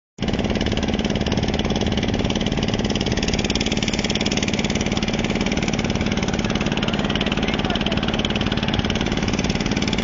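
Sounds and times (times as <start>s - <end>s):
boat engine chugging: 0.2s - 10.0s.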